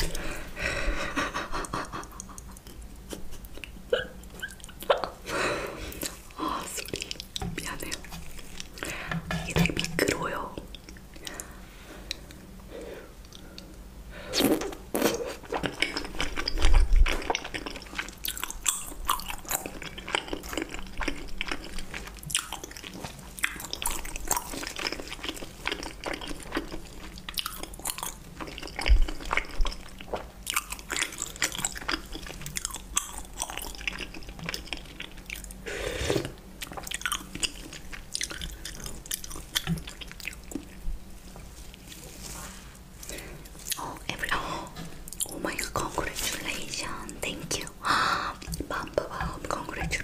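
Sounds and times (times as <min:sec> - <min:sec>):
person chewing food: 0:00.0 - 0:12.5, 0:14.4 - 0:47.7, 0:48.4 - 0:50.0.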